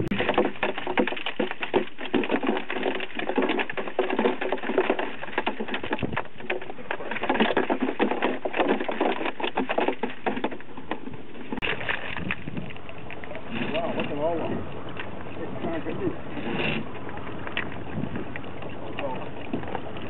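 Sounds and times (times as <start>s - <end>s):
crabs and shells clattering: 0.0s - 20.0s.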